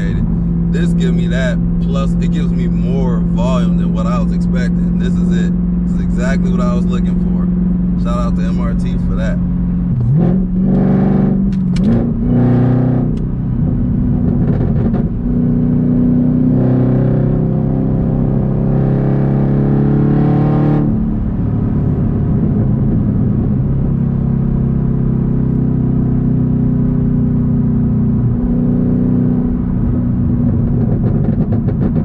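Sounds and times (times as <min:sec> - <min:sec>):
car engine droning: 0:00.0 - 0:32.0.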